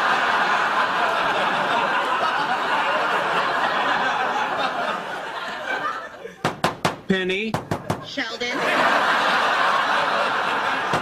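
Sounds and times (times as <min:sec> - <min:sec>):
audience laughing: 0:00.0 - 0:06.4, 0:08.0 - 0:11.0.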